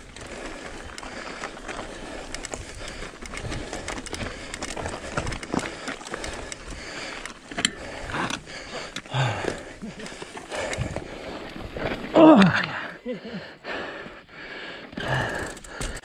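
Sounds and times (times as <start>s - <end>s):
tyres crunching on dirt: 0.0s - 12.8s
bike clicks and rattles: 0.0s - 16.0s.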